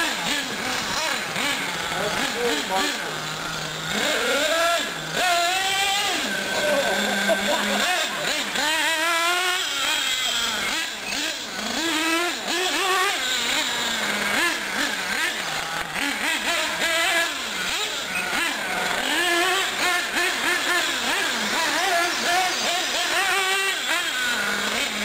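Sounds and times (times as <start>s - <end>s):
rc car motors whining: 0.0s - 25.0s.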